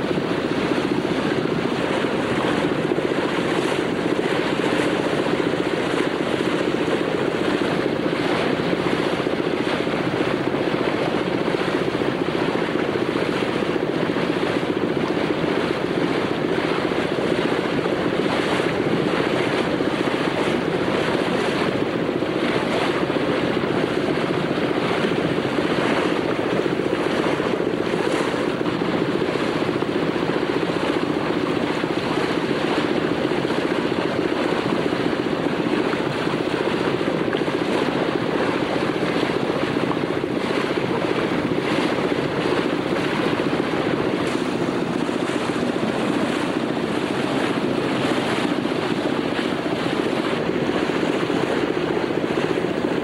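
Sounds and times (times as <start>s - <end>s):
boat engine droning: 0.0s - 53.0s
water rushing along hull: 0.0s - 53.0s
wind on microphone: 0.0s - 53.0s.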